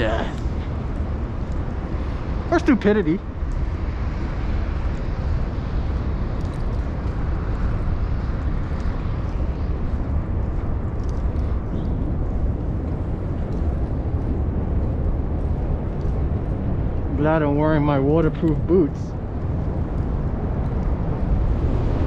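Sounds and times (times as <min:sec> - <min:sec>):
street noise with low rumble: 0:00.0 - 0:22.0.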